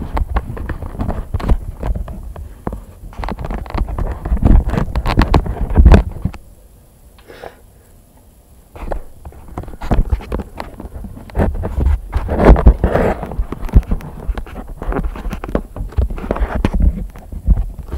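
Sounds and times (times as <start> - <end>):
microphone handling rubbing and bumps: 0.0 - 6.5, 8.7 - 17.9.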